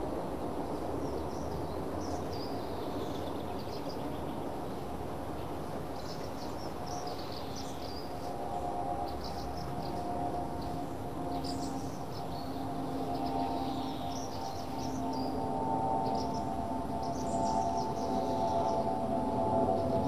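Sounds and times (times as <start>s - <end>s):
small birds chirping: 0.6s - 20.0s.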